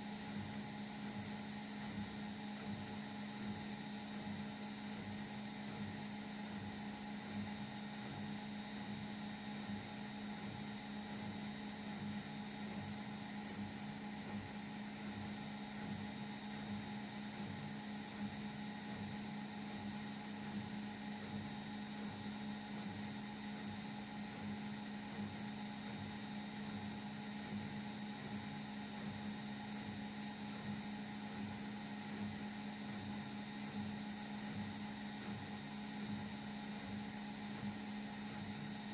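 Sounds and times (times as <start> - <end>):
washing machine humming: 0.0 - 38.9.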